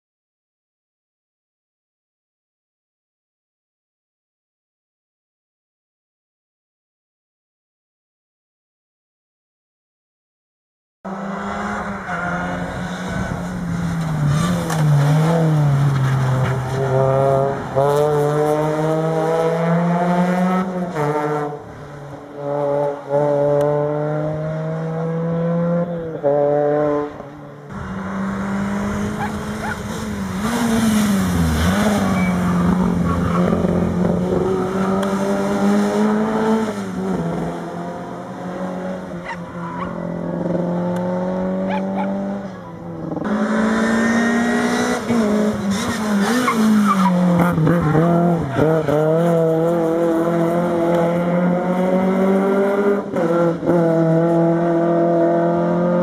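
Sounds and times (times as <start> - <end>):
rally car engines revving: 11.1 - 56.0.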